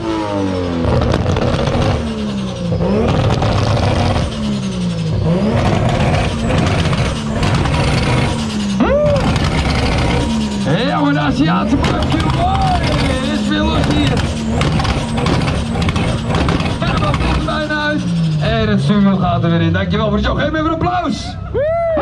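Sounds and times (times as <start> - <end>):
car engine revving hard: 0.0 - 19.4.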